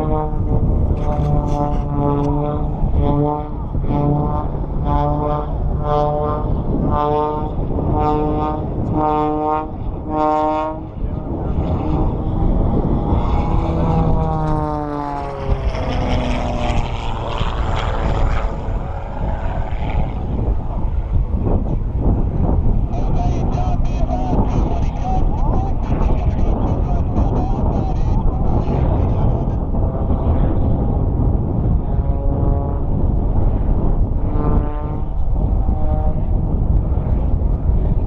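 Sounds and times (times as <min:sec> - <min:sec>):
propeller and air rush: 0:00.0 - 0:38.0
propeller plane engine: 0:00.0 - 0:38.0.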